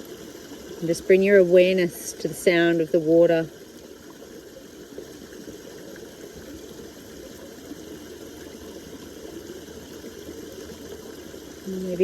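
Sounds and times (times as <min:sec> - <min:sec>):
creek water trickling over stones: 0:00.0 - 0:12.0.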